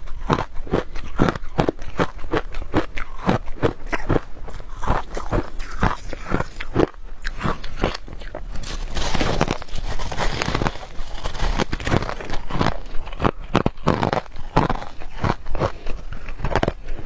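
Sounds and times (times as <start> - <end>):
frost being chewed: 0.0 - 17.0.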